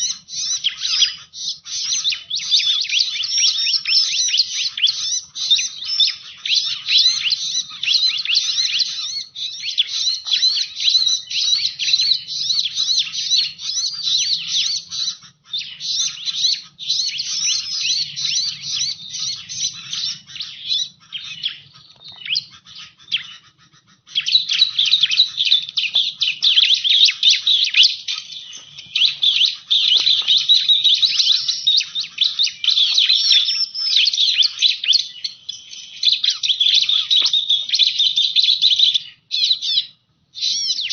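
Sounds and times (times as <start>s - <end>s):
bird high chirps: 0.0s - 40.9s.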